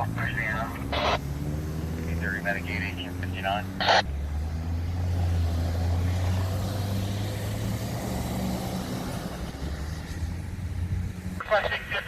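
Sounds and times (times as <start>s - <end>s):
road vehicle droning: 0.0s - 12.0s.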